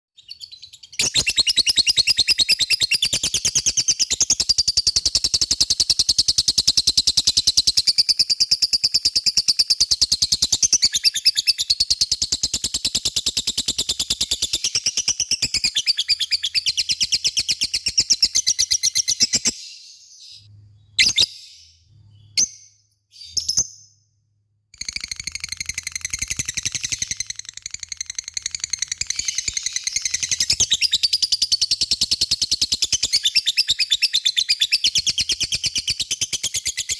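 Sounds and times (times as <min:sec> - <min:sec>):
bird chirps: 0:00.1 - 0:36.9.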